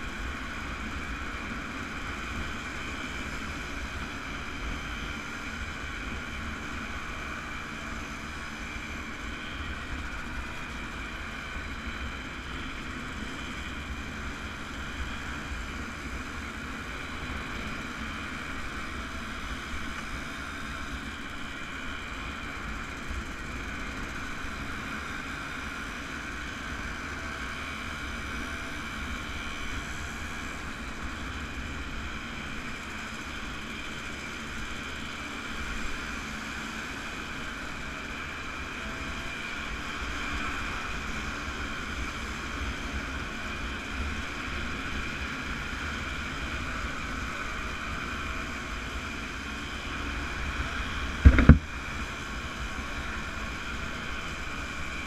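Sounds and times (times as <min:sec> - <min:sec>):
road and wind noise: 0:00.0 - 0:55.0
two-stroke motorcycle engines running: 0:00.0 - 0:55.0.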